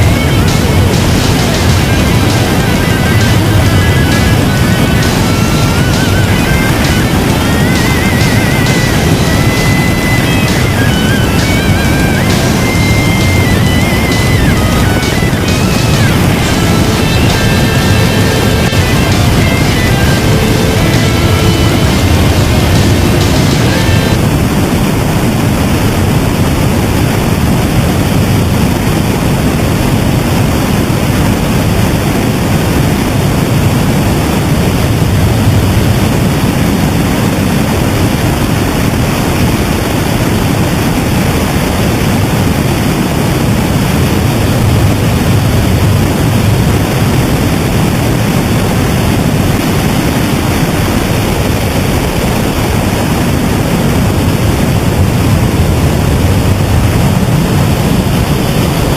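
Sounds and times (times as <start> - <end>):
helicopter in flight: 0.0 - 58.9.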